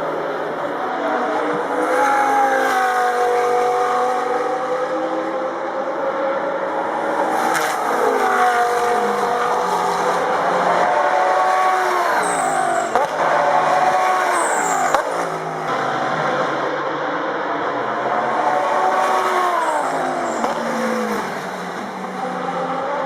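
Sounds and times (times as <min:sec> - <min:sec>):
race car engines running hard: 0:00.0 - 0:23.0.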